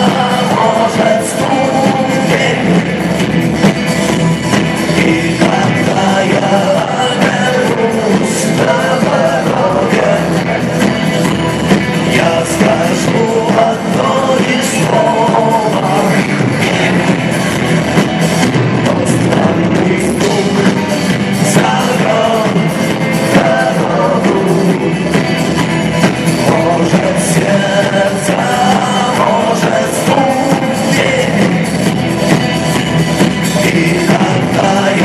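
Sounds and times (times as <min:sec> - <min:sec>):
person singing: 0:00.0 - 0:03.4, 0:04.5 - 0:35.0
drums: 0:00.0 - 0:35.0
electric guitars: 0:00.0 - 0:35.0.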